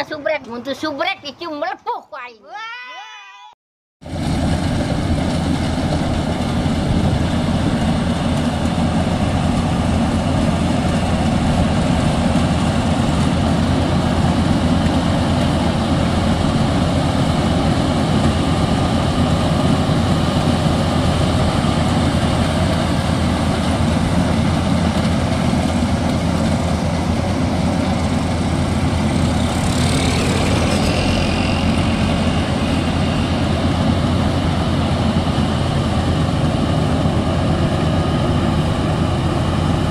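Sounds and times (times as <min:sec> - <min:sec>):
combine harvester droning: 0:04.0 - 0:39.9.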